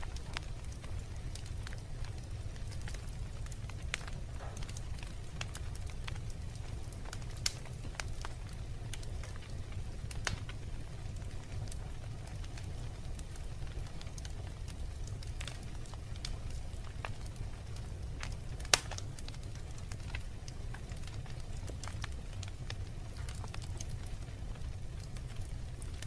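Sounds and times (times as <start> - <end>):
fire crackling: 0.0 - 26.0
fire flames rumbling: 0.0 - 26.0.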